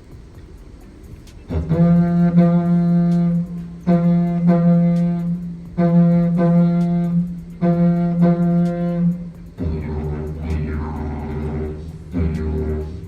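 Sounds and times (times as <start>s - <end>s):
didgeridoo drone: 0.0s - 13.0s.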